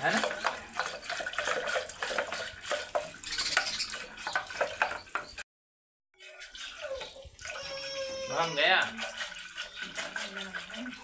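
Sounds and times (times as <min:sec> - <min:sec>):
liquid sloshing in a hand churn: 0:00.0 - 0:05.4, 0:06.2 - 0:11.0.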